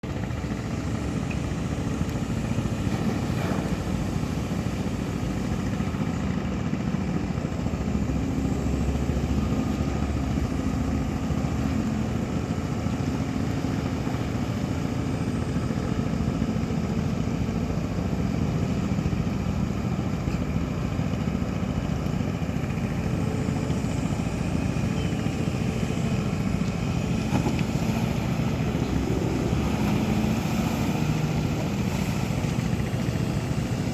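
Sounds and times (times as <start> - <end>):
large engine droning: 0.0 - 33.9.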